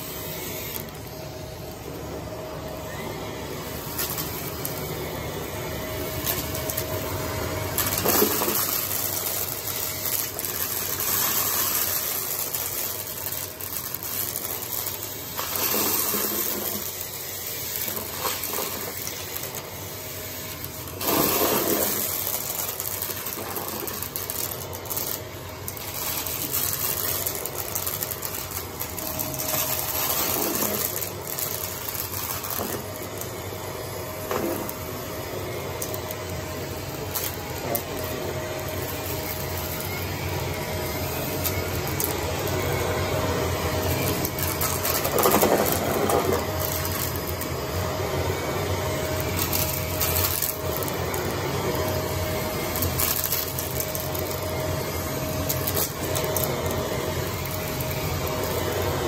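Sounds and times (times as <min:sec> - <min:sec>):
vacuum cleaner motor: 0:00.0 - 0:59.0
debris rattling through vacuum: 0:02.9 - 0:59.0.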